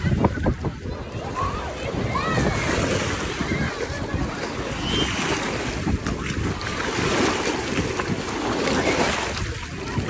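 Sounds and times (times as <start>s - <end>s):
small waves breaking on shore: 0.0s - 10.0s
wind buffeting microphone: 0.0s - 10.0s.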